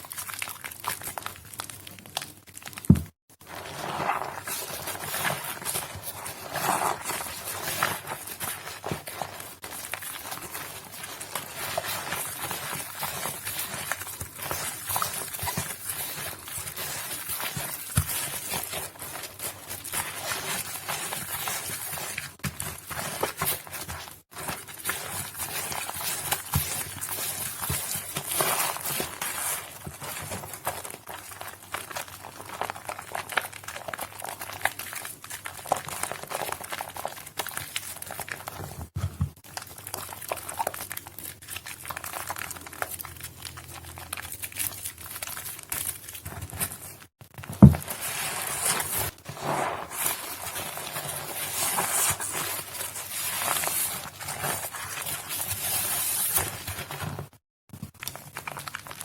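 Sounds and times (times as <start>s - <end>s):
wet soap crunching: 0.0s - 59.0s.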